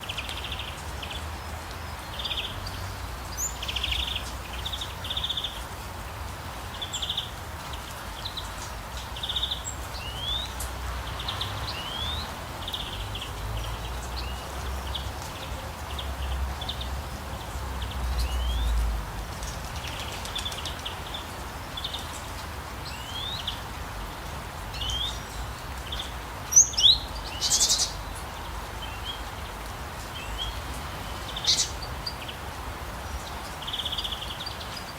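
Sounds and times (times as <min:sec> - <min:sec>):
small birds singing and chirping: 0:00.0 - 0:34.9.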